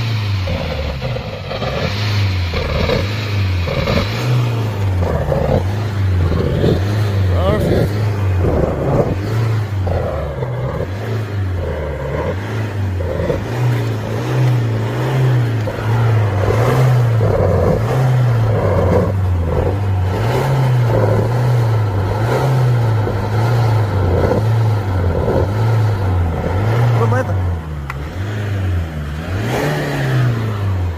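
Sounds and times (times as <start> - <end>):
diesel engine revving: 0.0 - 30.9
exhaust rush: 0.0 - 30.9.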